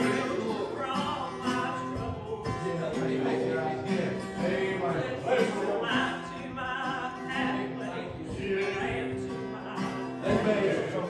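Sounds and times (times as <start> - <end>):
guitar accompaniment: 0.0 - 11.0
person singing: 0.0 - 11.0.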